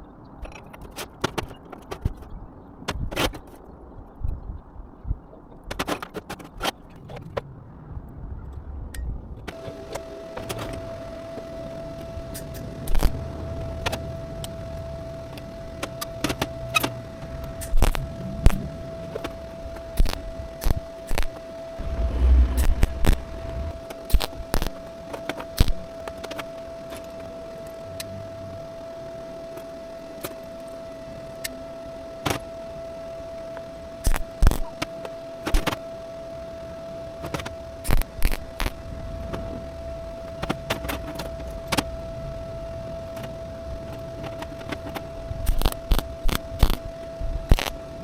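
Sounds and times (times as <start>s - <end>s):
steady high-pitched tone: 9.0s - 48.0s.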